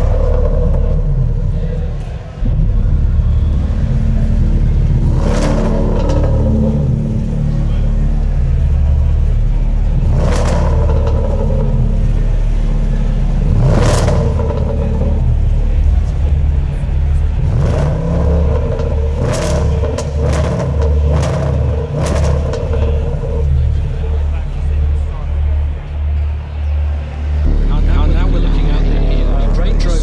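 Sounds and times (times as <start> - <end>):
car engine revving: 0.0 - 30.0
exhaust cracks: 0.0 - 30.0.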